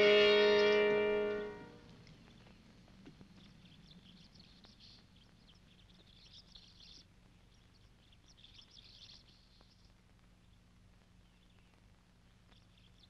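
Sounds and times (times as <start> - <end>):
faint birds chirping: 0.0 - 13.0
low steady hum: 0.0 - 13.0.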